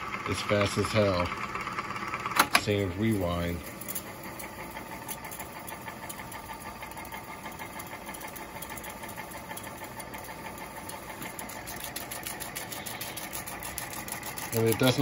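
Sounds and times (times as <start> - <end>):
tape recorder rewinding whir: 0.0 - 15.0.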